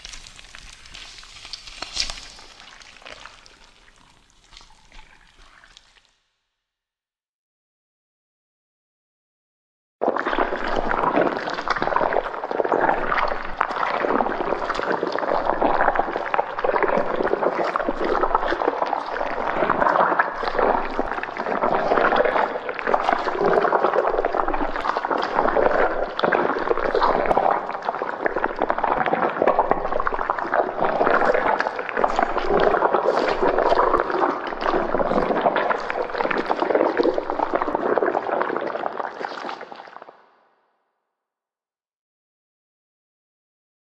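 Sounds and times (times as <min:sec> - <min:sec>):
wet gurgling bubbling: 0:00.0 - 0:06.1, 0:10.0 - 0:40.4.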